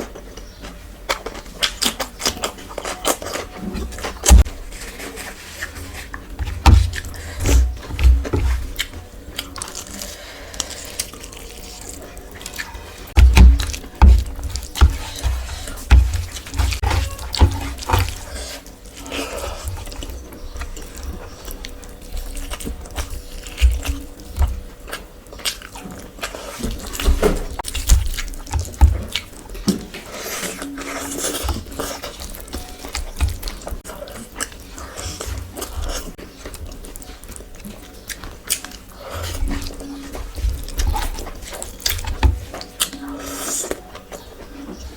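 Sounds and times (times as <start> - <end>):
wet smacking and chewing: 0.0 - 44.9.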